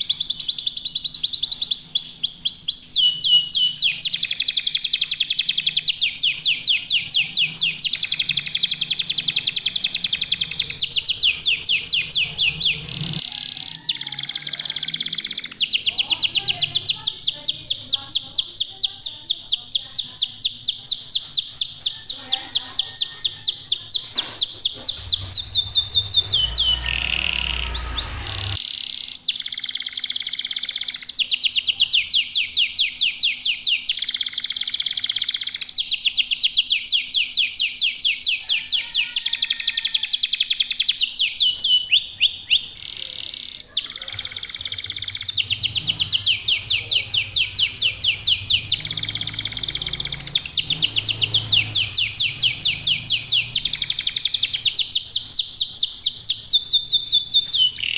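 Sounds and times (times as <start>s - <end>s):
canaries trilling: 0.0s - 30.2s, 30.8s - 57.9s.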